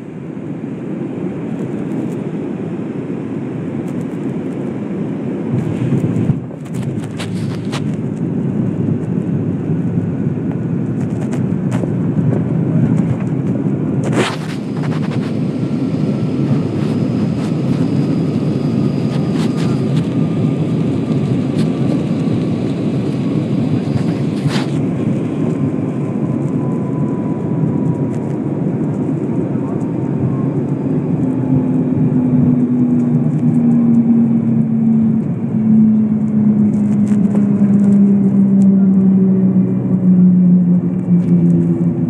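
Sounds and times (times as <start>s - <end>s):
jet cabin engine rumble: 0.0s - 42.0s.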